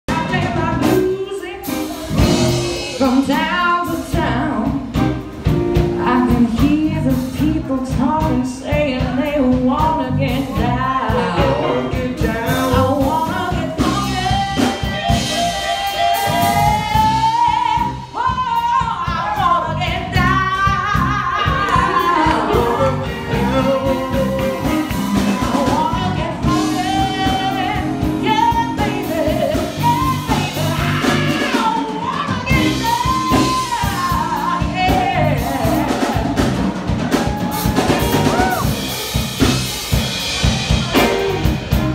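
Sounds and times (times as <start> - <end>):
woman singing: 0.1 - 5.1, 6.0 - 36.8
blues band playing: 0.1 - 41.9.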